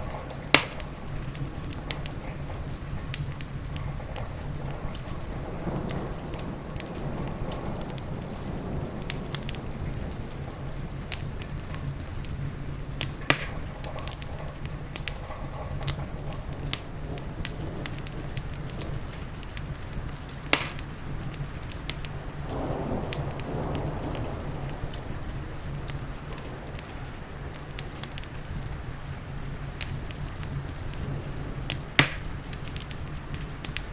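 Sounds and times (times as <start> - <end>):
heavy rain hiss: 0.0 - 33.9
wood fire crackling and popping: 0.0 - 33.9.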